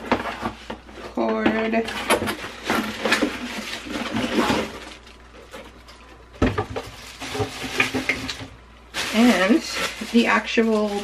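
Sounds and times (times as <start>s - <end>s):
plastic packaging crinkling: 1.8s - 11.0s.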